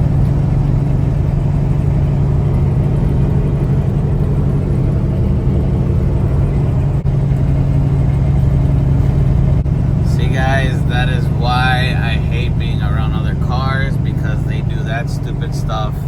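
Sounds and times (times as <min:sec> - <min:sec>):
road noise: 0:00.0 - 0:16.0
truck diesel engine droning: 0:00.0 - 0:16.0.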